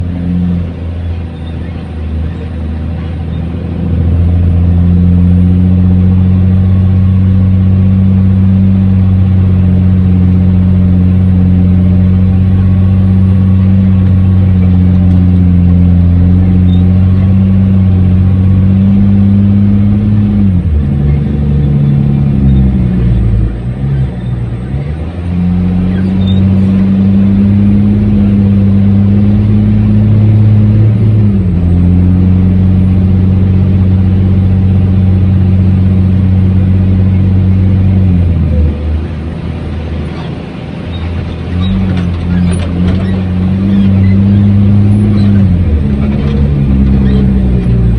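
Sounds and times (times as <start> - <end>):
truck engine at high revs: 0.0 - 47.9.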